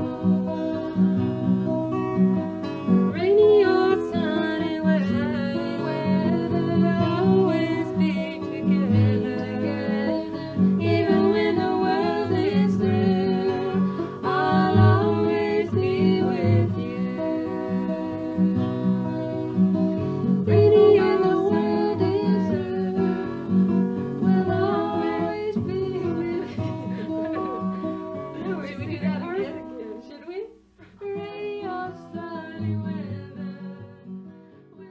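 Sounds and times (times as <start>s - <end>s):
woman singing: 0.0s - 1.2s, 3.1s - 29.3s, 30.9s - 34.9s
acoustic guitar: 0.0s - 34.9s.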